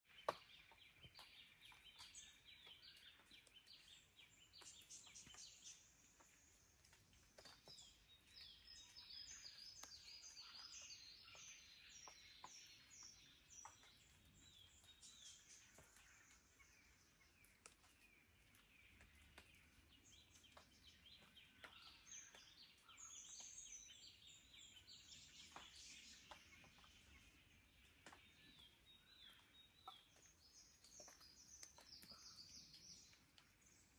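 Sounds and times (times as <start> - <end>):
birds chirping and whistling: 0.2 - 6.6, 7.4 - 33.9.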